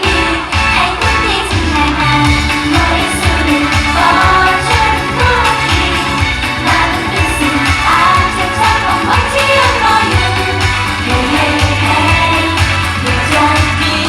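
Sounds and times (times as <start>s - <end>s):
dance beat: 0.0s - 14.0s
woman singing pop song: 0.0s - 14.0s.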